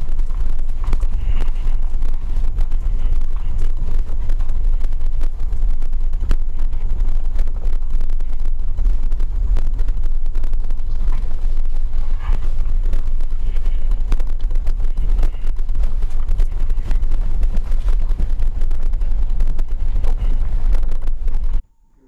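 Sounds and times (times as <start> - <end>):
car rumbling over stony road: 0.0 - 21.6
wind buffeting microphone: 0.0 - 21.6.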